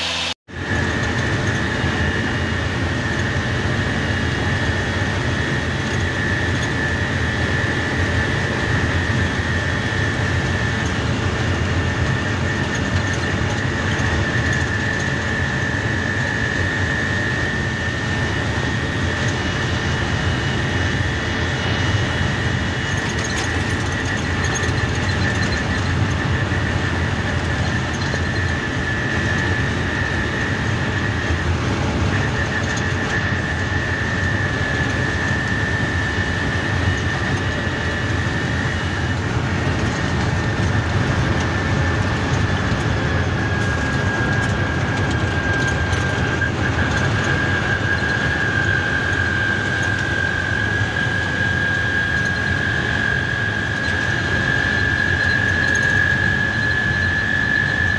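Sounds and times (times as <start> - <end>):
high whine: 0.0 - 57.9
truck engine rumble: 0.0 - 57.9.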